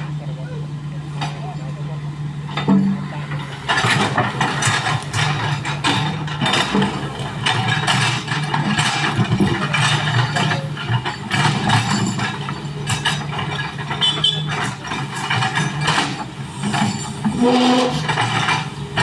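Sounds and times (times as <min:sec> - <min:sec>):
excavator diesel engine running: 0:00.0 - 0:19.0
scraping and clanking: 0:02.4 - 0:19.0.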